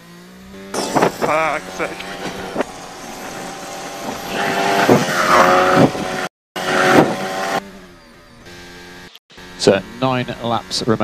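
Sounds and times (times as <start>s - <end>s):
racing car engine changing gear: 0.0s - 11.0s.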